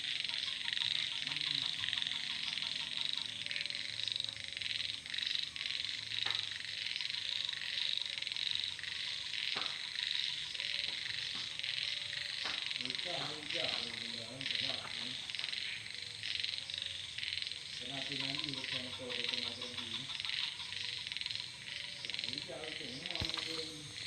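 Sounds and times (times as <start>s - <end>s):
insects trilling: 0.0s - 24.0s
pulsed frog calls: 0.0s - 24.0s.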